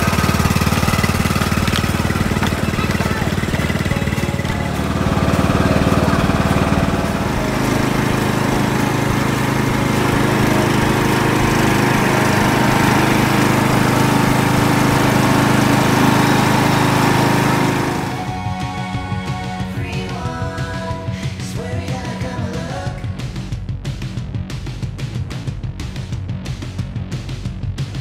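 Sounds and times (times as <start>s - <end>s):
lawn tractor engine running: 0.0s - 23.3s.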